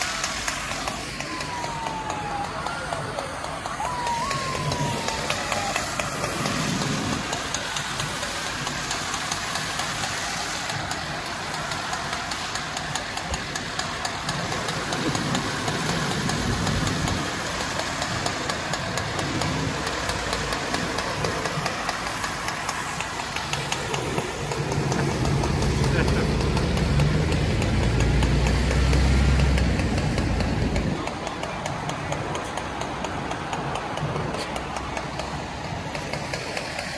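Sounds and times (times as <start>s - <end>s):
fire engine running: 0.0s - 36.9s
fire hose spraying water: 0.0s - 36.9s.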